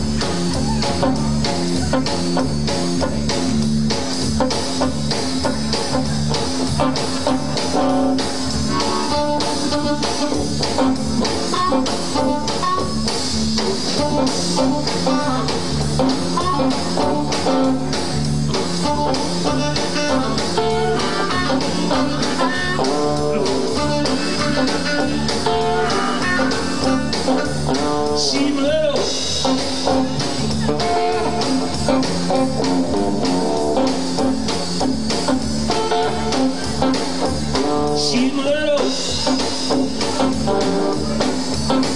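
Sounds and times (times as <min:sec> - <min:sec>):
blues band playing: 0:00.0 - 0:41.9
electric guitar lead lines: 0:00.0 - 0:41.9.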